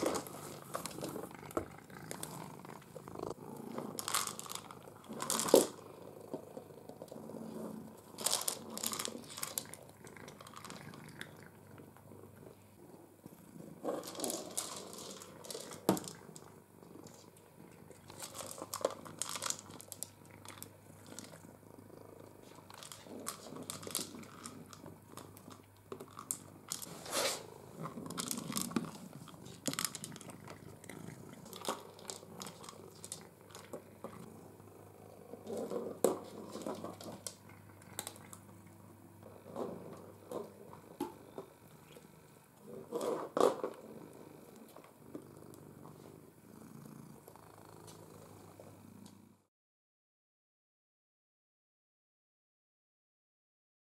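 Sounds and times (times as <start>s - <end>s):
plastic ball feeder rolling on floor: 0.0s - 46.2s.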